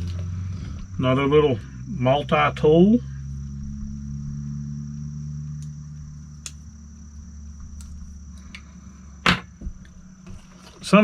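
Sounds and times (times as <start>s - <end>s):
high-pitched whine: 0.0s - 11.0s
steady low hum: 0.0s - 11.0s.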